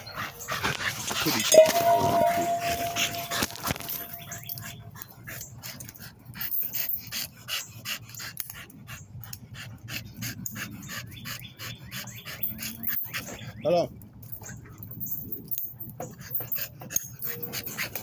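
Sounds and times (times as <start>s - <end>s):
dog panting hard: 0.0s - 13.5s, 16.0s - 18.0s.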